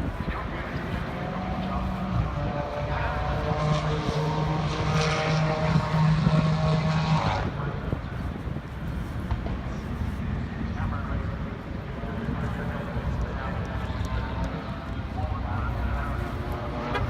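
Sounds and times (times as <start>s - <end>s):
engine droning: 0.0s - 8.2s, 9.0s - 17.0s.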